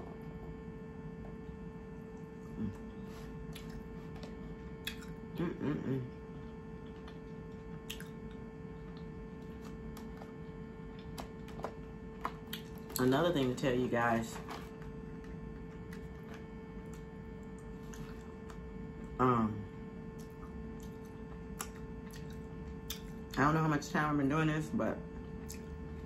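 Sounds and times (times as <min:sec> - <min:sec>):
electrical hum: 0:00.0 - 0:26.0
quiet chewing: 0:00.1 - 0:05.4, 0:06.1 - 0:13.1, 0:14.4 - 0:19.1, 0:20.1 - 0:23.4, 0:25.4 - 0:26.0.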